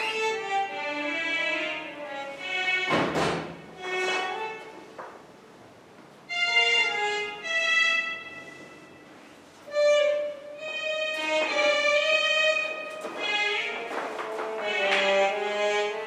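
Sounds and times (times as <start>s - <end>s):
violin playing long held notes: 0.0s - 2.9s, 3.8s - 4.8s, 6.3s - 9.1s, 9.7s - 16.0s.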